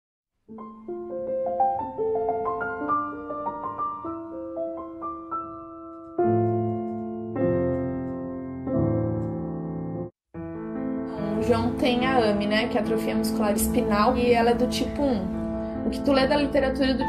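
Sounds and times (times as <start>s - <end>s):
piano music: 0.5s - 17.0s.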